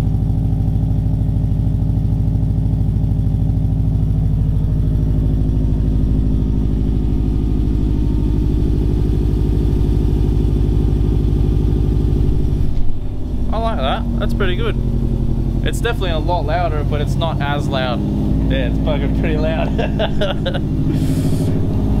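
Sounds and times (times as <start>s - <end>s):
car engine idling loudly: 0.0s - 22.0s.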